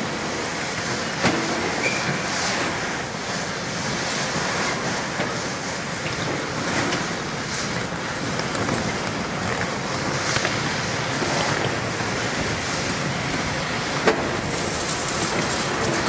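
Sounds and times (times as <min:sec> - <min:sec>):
diesel engine and hydraulics: 0:00.0 - 0:16.0.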